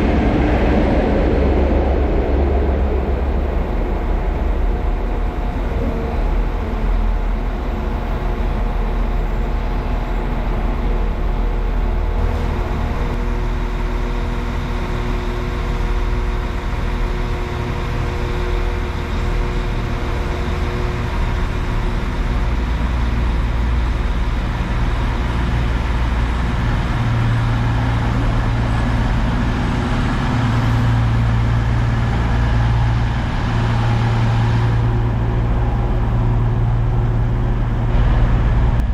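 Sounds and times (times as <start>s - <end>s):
diesel train engine rumbling: 0.0s - 38.9s.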